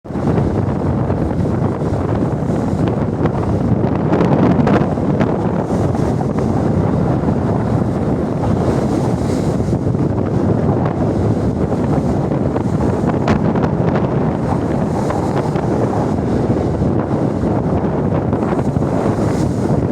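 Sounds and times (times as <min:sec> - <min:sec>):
strong wind buffeting microphone: 0:00.0 - 0:19.9
water washing: 0:00.8 - 0:19.9.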